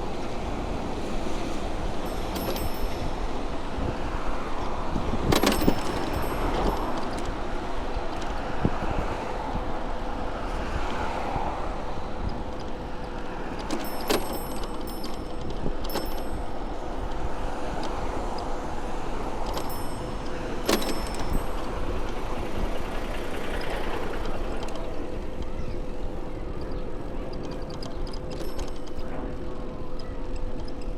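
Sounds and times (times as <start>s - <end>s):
city street traffic: 0.0s - 30.9s
road rumble: 0.0s - 30.9s.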